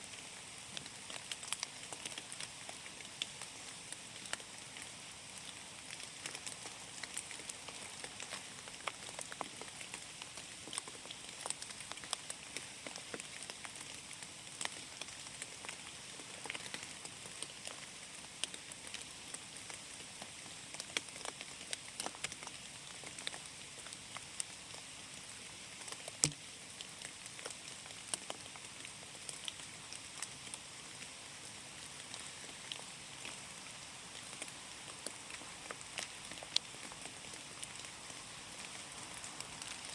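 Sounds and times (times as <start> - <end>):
rain hissing in a forest: 0.0 - 39.9.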